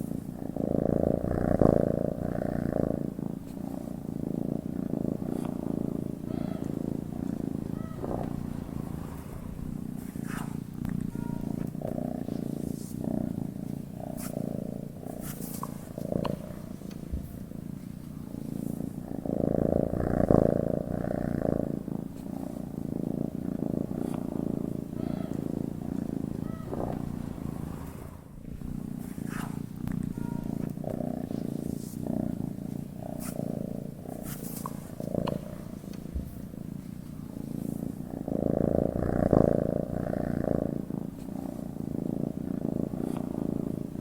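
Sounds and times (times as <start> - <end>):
cat purring: 0.0 - 44.0.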